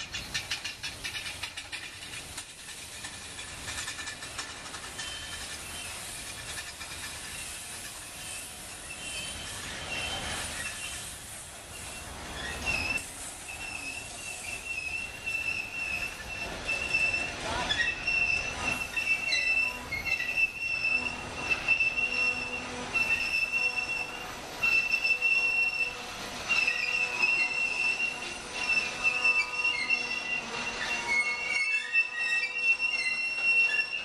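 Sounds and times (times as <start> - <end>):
rumble of rolling train cars: 0.0 - 34.0
train wheels squealing on rails: 0.0 - 34.0.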